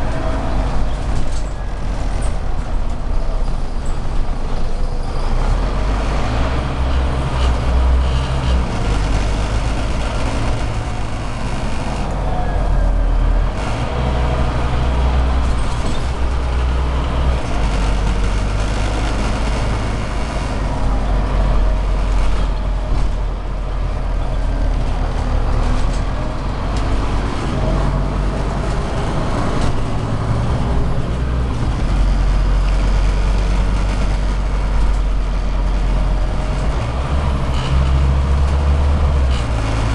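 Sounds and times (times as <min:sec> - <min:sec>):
bus engine droning: 0:00.0 - 0:39.9.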